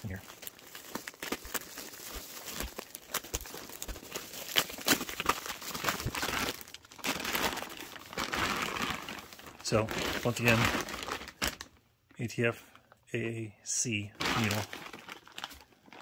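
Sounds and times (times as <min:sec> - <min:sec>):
bubble wrap and plastic bag crinkling: 0:00.0 - 0:13.0, 0:14.0 - 0:16.0.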